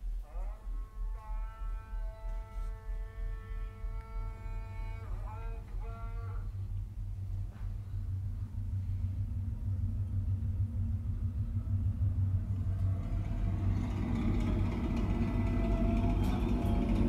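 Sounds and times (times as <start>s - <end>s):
deep low rumble soundtrack: 0.0s - 17.0s
higher tones: 0.0s - 17.0s.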